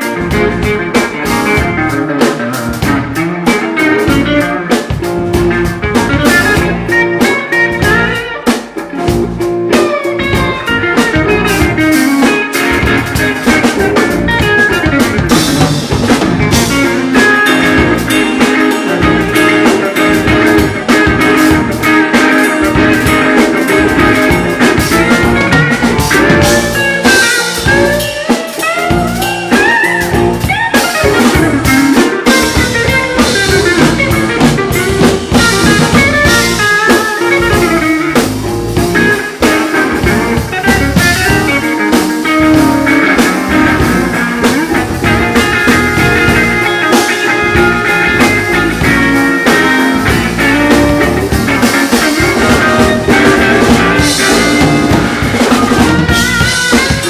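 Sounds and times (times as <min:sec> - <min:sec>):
electric guitar bending notes: 0:00.0 - 0:57.0
live blues band playing: 0:00.0 - 0:57.0.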